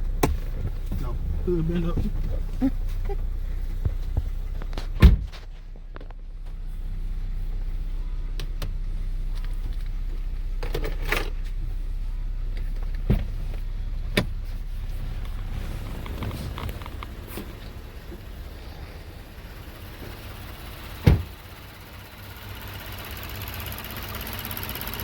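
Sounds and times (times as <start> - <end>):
engine and road noise drone: 0.0 - 25.0.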